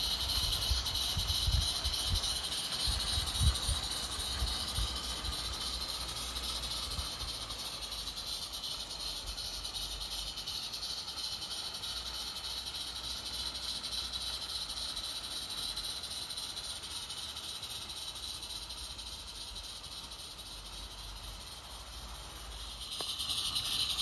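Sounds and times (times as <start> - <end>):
steam hissing: 0.0 - 24.0.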